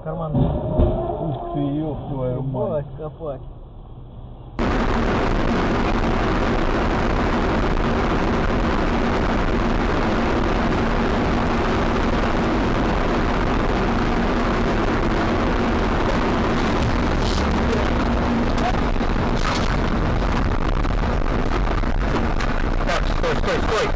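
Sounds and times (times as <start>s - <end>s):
vehicle engine and road rumble: 0.0s - 23.9s.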